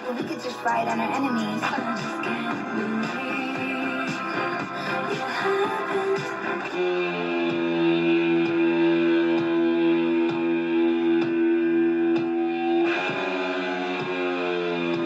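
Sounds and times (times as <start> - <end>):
guitar music on a radio: 0.0 - 15.0.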